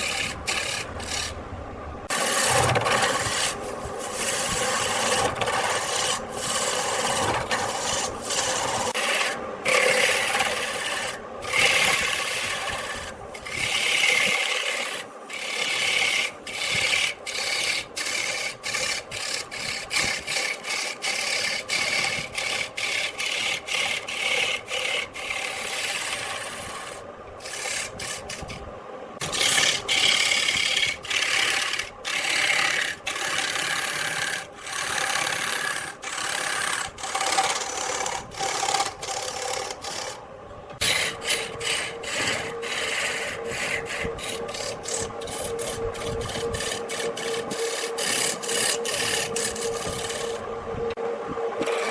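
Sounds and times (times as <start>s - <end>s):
lathe tool scraping wood: 0.0s - 1.4s, 2.0s - 28.6s, 29.2s - 40.2s, 40.8s - 50.5s, 51.6s - 51.9s.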